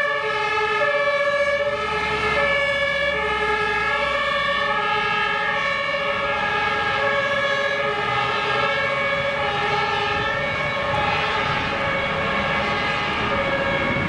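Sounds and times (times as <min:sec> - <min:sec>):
two-tone fire engine horn: 0:00.0 - 0:14.0.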